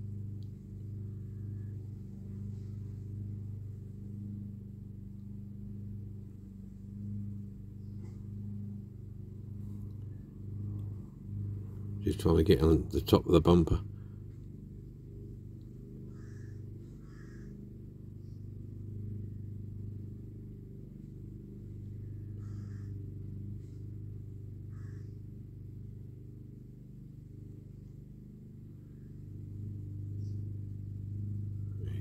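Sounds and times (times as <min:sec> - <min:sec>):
distant lawn mowers droning: 0:00.0 - 0:32.0.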